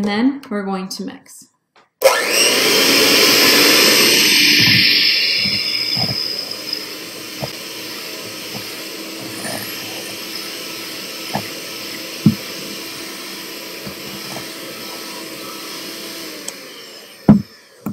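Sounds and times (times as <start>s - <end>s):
electric mixer whirring: 2.0s - 17.9s.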